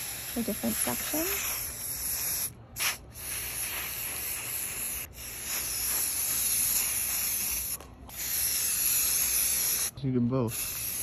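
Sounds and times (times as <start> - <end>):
spray paint can hissing: 0.0 - 11.0.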